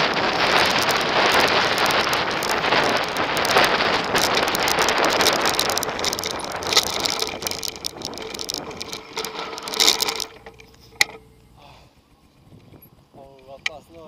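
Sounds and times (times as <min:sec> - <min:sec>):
wind rushing over microphone: 0:00.0 - 0:11.2, 0:12.3 - 0:14.0
mountain bike rattling over dirt: 0:00.0 - 0:14.0.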